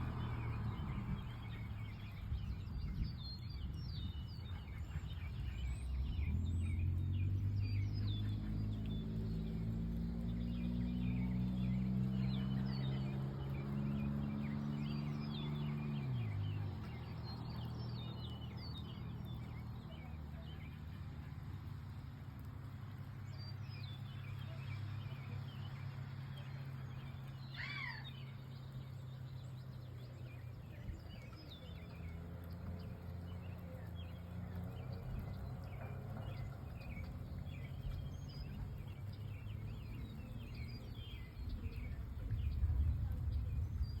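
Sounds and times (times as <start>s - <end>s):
small birds chirping: 0.0s - 44.0s
engine drone: 4.3s - 44.0s.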